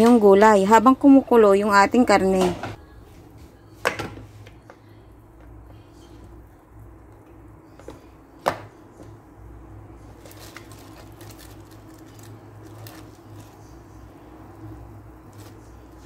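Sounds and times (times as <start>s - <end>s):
steady low hum: 0.4s - 16.0s.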